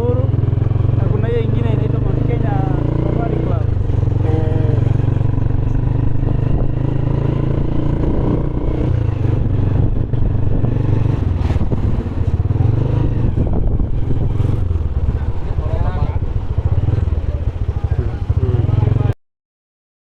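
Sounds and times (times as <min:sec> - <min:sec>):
vehicle engine drone and road noise: 0:00.0 - 0:19.2.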